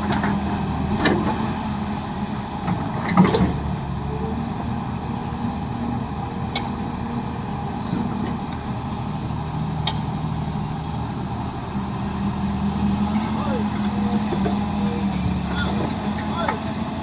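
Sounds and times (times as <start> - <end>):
heavy machine engine idling: 0.0 - 17.0.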